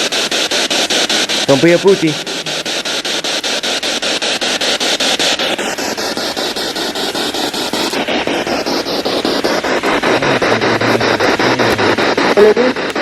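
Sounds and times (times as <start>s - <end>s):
chopped radio static hiss: 0.0s - 13.0s.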